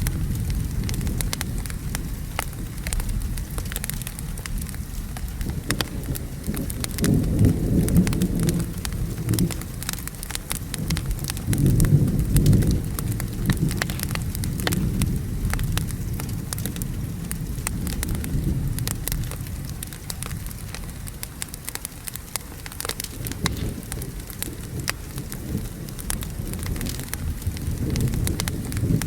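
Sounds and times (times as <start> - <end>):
low thunder rumble: 0.0 - 29.0
steady rain: 0.0 - 29.0
wood fire crackling and popping: 0.0 - 29.0.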